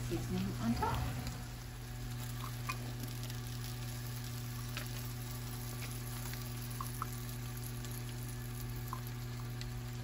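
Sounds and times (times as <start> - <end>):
chicken wings sizzling in pan: 0.0 - 10.0
steady low hum: 0.0 - 10.0.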